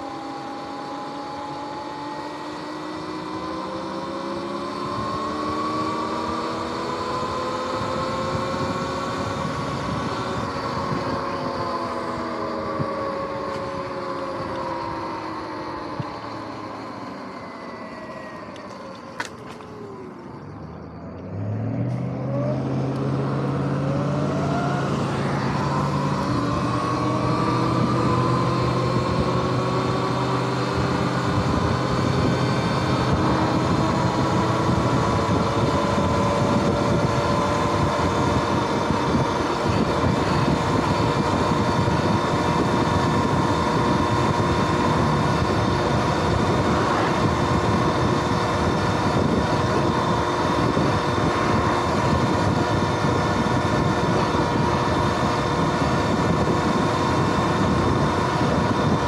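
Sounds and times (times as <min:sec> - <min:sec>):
electric motor whining: 0:00.0 - 0:59.0
wind and tyre noise: 0:00.0 - 0:59.0.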